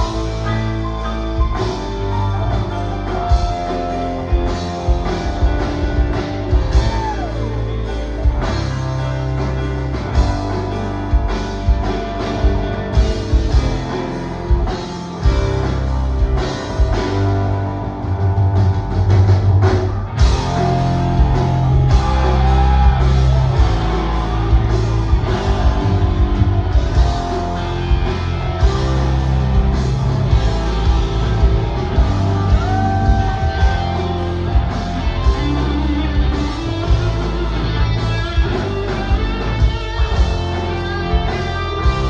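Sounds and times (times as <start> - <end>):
bass guitar: 0.0 - 42.0
drum kit: 0.0 - 42.0
electric guitar: 0.0 - 42.0.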